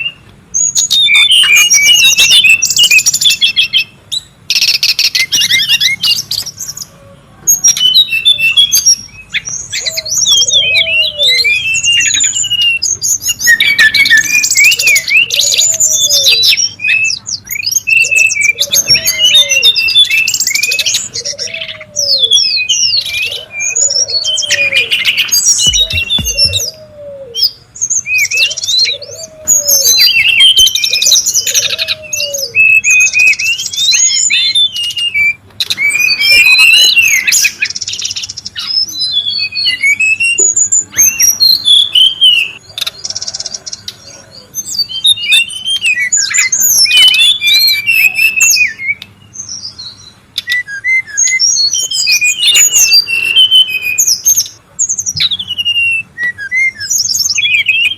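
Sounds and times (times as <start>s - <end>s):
birds singing and twittering: 0.0s - 57.9s.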